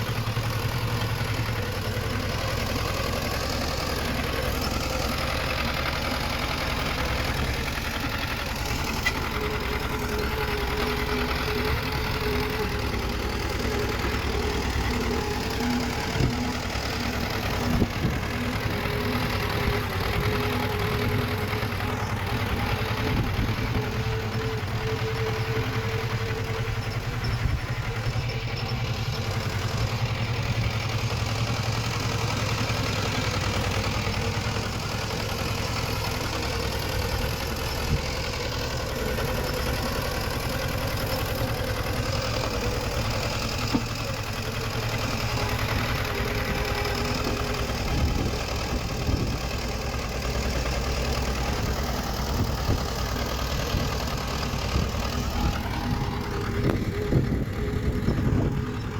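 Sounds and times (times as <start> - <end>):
heavy machinery diesel engine running: 0.0 - 58.9.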